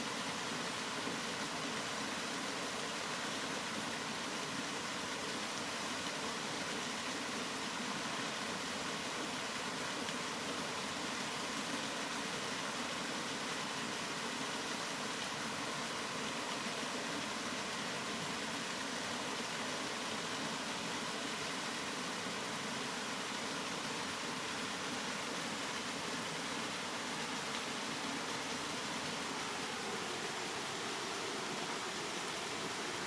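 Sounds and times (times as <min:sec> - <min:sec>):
rain hiss: 0:00.0 - 0:33.0.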